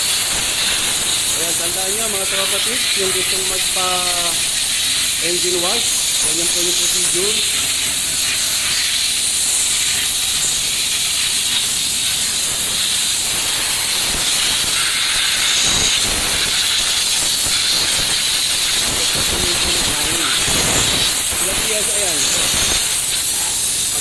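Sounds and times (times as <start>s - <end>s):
high-pressure water jet hissing: 0.0s - 24.0s.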